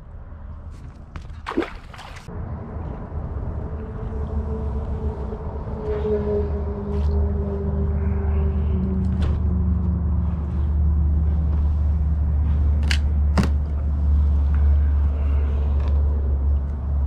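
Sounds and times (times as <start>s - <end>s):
low engine rumble: 2.2s - 17.0s.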